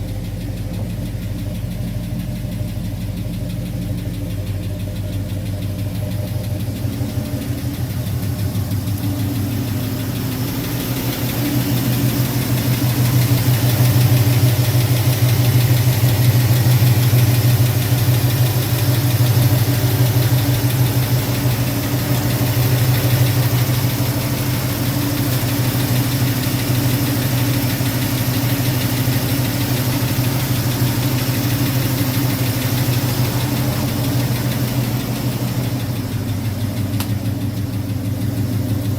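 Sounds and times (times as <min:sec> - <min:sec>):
truck engine running: 0:00.0 - 0:38.9.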